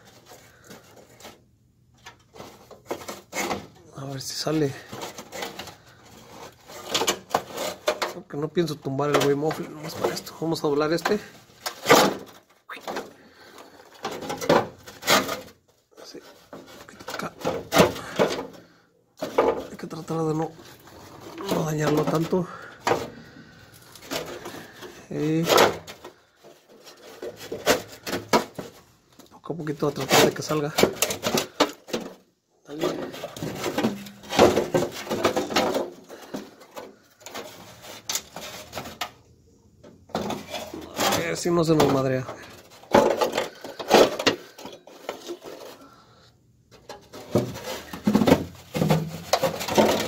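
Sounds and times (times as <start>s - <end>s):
sheet metal scraping and clattering: 2.0s - 28.9s, 29.7s - 39.2s, 40.1s - 50.0s.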